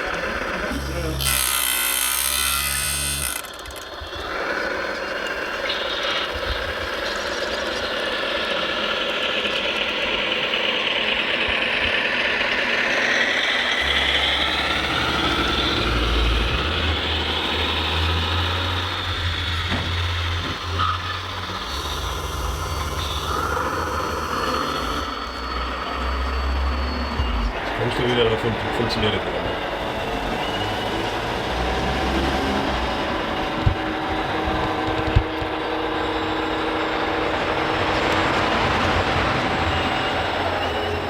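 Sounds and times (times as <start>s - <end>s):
electric motor whine: 0.0s - 41.0s.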